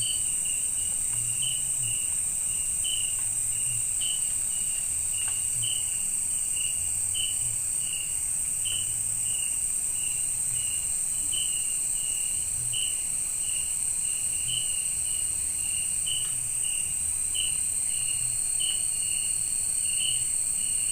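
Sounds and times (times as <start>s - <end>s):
crickets chirping: 0.0s - 20.9s
high-pitched insect trill: 0.0s - 20.9s.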